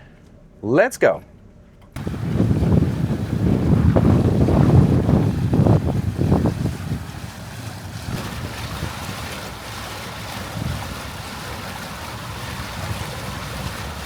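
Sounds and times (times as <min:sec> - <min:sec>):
boat motor: 0:01.3 - 0:14.0
rushing water: 0:02.0 - 0:14.0
wind buffeting the microphone: 0:02.0 - 0:14.0.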